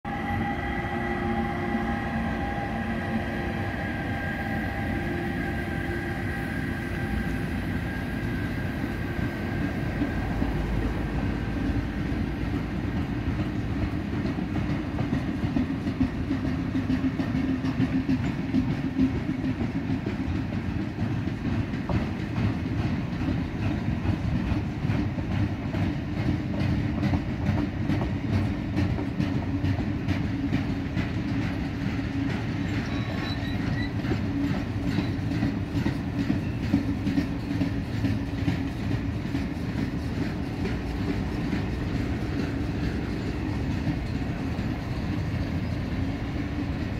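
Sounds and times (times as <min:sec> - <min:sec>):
electric locomotive whine: 0:00.0 - 0:46.9
steel wheels on rail: 0:00.1 - 0:46.9
train wheels clickety-clack: 0:00.1 - 0:46.9.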